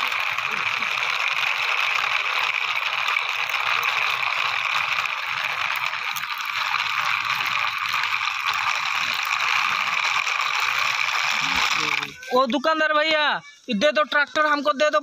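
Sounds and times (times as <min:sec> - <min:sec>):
toy wheels whirring on concrete: 0:00.0 - 0:14.7.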